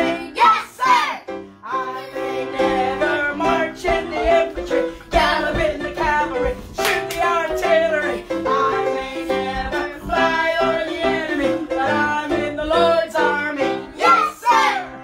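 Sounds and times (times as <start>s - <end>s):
upright piano accompaniment: 0.0s - 15.0s
voices singing a children's song: 0.0s - 15.0s.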